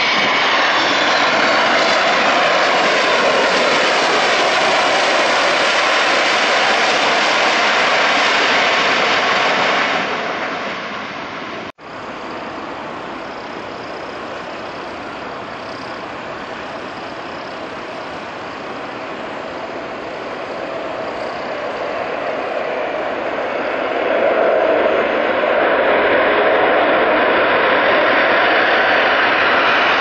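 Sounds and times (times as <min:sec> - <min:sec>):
airliner jet engines rolling past: 0:00.0 - 0:30.0
steady jet noise: 0:00.0 - 0:30.0.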